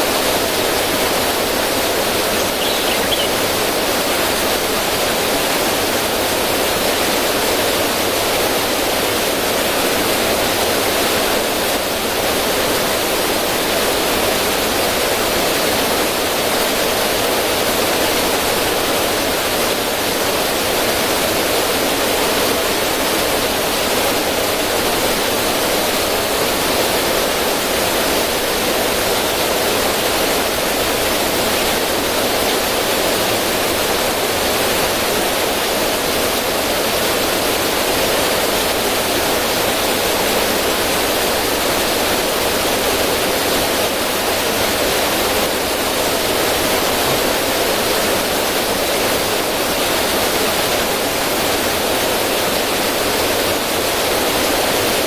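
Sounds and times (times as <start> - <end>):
water rushing over stones: 0.0 - 55.0.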